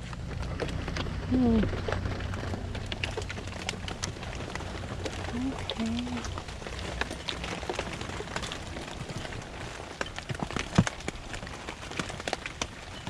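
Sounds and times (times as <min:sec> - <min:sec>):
raindrops tapping surfaces: 0:00.0 - 0:13.0
steady rain: 0:00.0 - 0:13.0.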